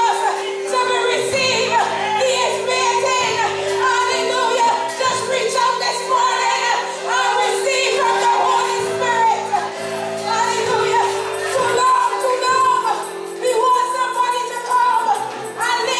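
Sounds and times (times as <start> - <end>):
gospel singing voices: 0.0 - 15.9
held instrumental chords: 0.0 - 15.9.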